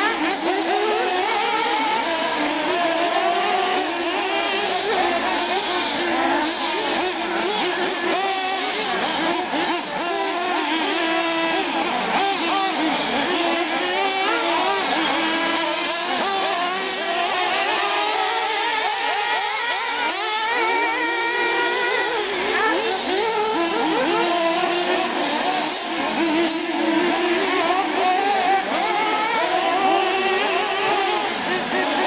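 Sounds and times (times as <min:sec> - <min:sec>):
small high-revving engines racing: 0:00.0 - 0:32.0.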